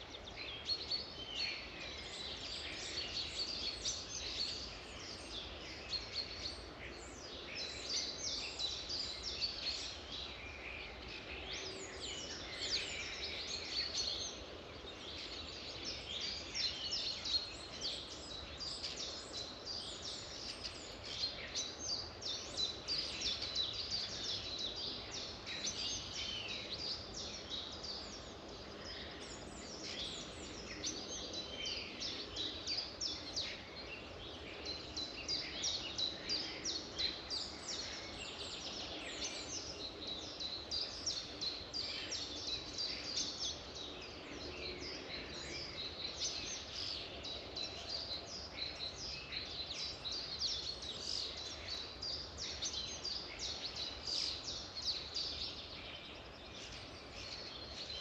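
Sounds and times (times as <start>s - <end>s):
faint steady hiss: 0.0s - 58.0s
songbirds singing and chirping: 0.0s - 58.0s.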